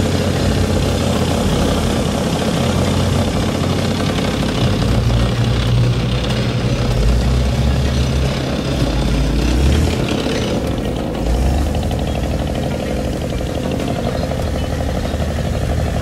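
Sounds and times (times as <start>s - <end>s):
heavy machinery engine rumbling: 0.0s - 16.0s.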